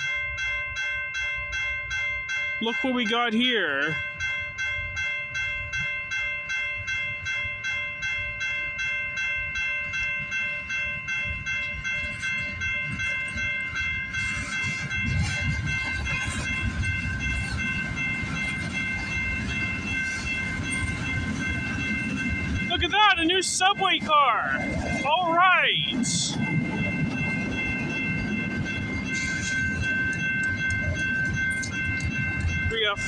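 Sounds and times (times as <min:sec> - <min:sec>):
railroad crossing bell ringing: 0:00.0 - 0:33.0
freight train rumbling and clattering: 0:02.4 - 0:33.0.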